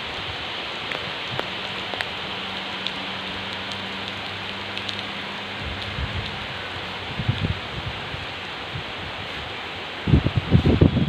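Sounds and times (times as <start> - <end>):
raindrops ticking close by: 0.0 - 11.0
steady rain hiss: 0.0 - 11.0.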